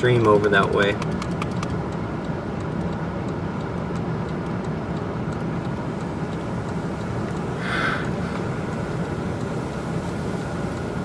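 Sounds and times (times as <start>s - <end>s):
faint regular ticking: 0.0s - 11.0s
vehicle cabin rumble: 0.0s - 11.0s.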